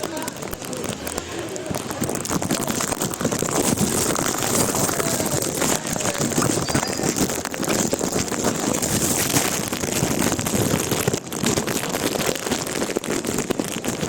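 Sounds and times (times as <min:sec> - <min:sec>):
heavy rain falling: 0:00.0 - 0:14.0
wind noise on microphone: 0:00.0 - 0:14.0.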